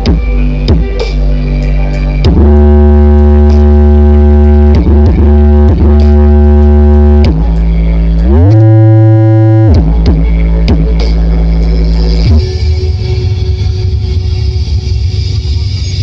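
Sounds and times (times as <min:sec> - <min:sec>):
deep droning bass note: 0:00.0 - 0:16.0.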